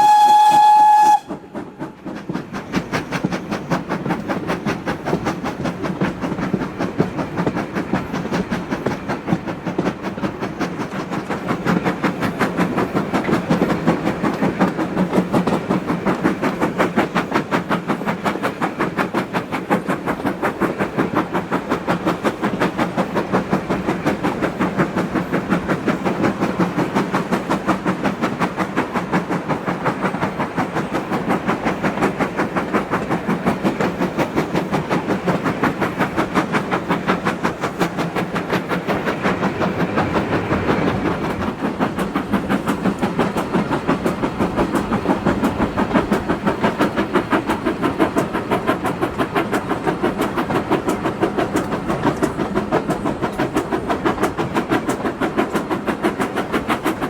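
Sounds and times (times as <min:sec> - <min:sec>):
steam locomotive exhaust beating: 0:00.0 - 0:57.0.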